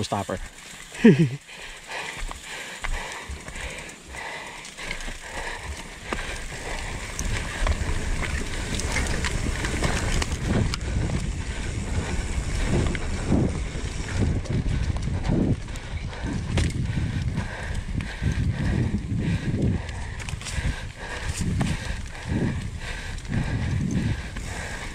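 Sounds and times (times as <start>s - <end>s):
bike clicks and rattles: 0.0s - 24.9s
bike tyres rumbling over dirt: 0.0s - 24.9s.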